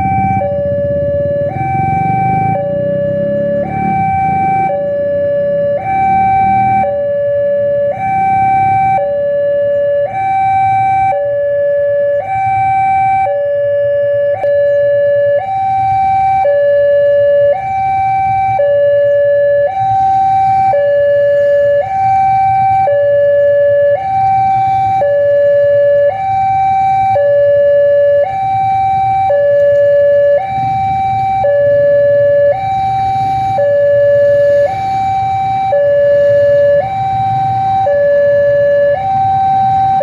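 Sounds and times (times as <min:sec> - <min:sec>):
level crossing two-tone alarm: 0:00.0 - 0:40.0.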